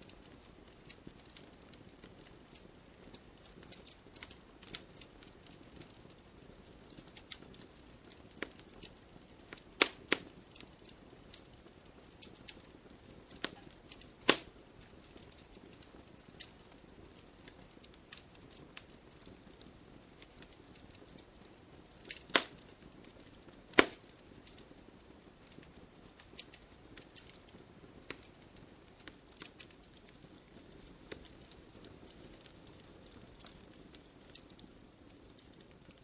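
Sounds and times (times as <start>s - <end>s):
fire hissing: 0.0s - 35.7s
campfire crackling and popping: 0.0s - 36.0s.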